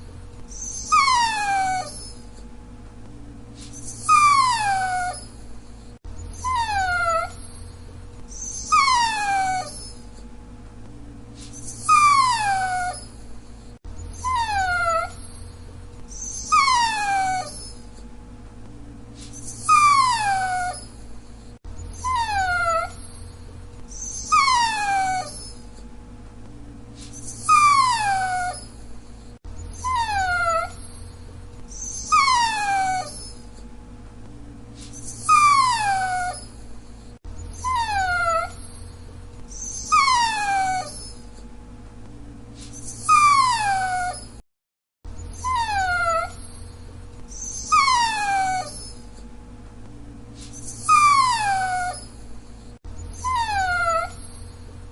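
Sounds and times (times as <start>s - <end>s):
dog whining: 0.0s - 2.5s, 3.6s - 10.3s, 11.4s - 18.1s, 19.2s - 25.9s, 27.0s - 33.7s, 34.8s - 41.5s, 42.6s - 44.4s, 45.1s - 49.3s, 50.4s - 54.9s.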